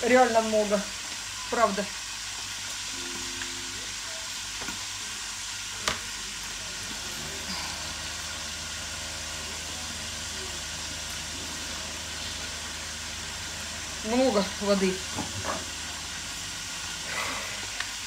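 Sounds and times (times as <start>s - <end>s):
peppers sizzling in a pan: 0.0s - 18.0s.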